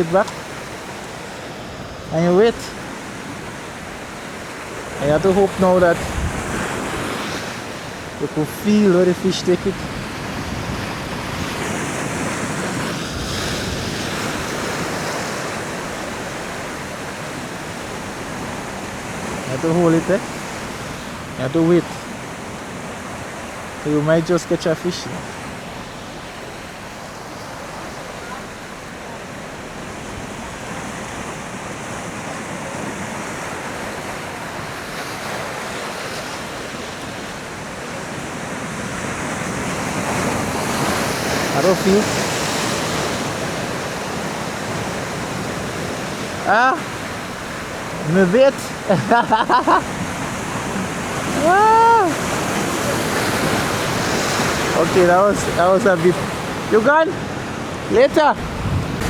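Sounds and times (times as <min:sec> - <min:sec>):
wind buffeting microphone: 0:00.0 - 0:49.2, 0:49.8 - 0:59.0
surf breaking against rocks: 0:00.0 - 0:59.0.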